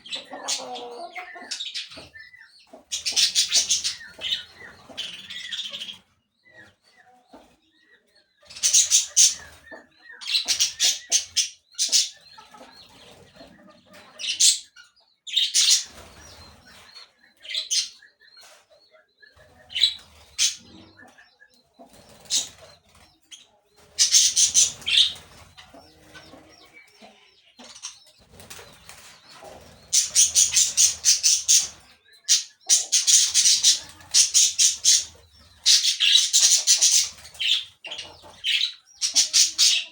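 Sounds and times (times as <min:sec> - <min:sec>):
parakeets chattering and squawking: 0:00.0 - 0:07.7, 0:08.4 - 0:39.9.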